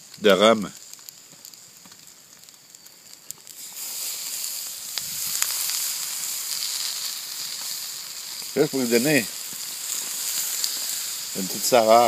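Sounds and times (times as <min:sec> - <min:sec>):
liquid sizzling on hot stone: 0:00.0 - 0:12.0.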